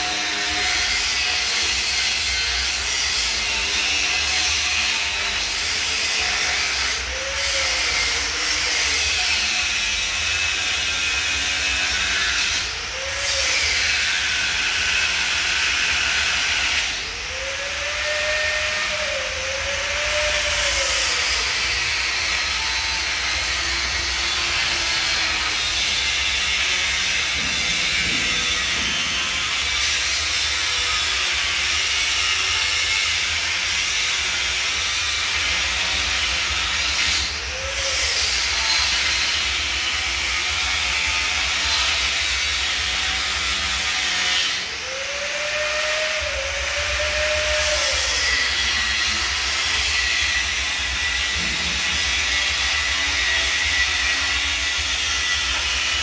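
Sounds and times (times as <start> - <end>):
angle grinder grinding steel: 0.0 - 56.0.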